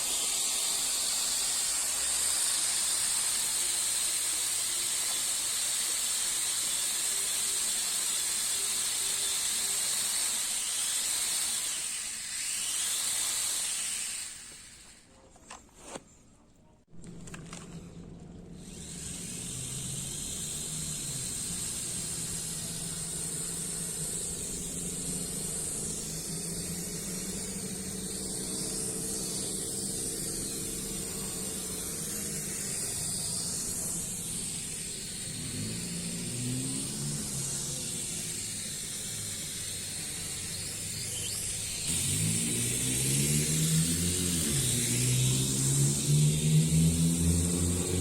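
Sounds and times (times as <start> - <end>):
small drone motors whirring: 0.0 - 15.1, 18.5 - 48.0.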